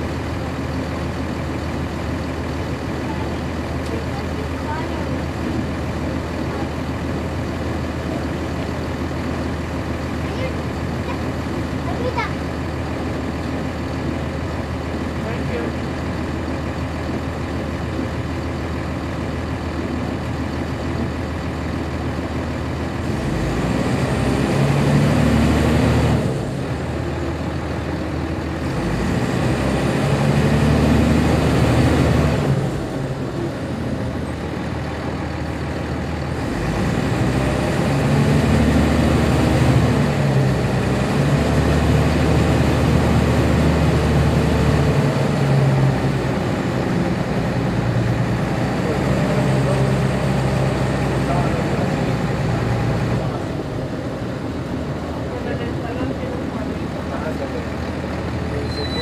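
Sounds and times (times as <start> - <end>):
bus diesel engine running: 0.0 - 59.0.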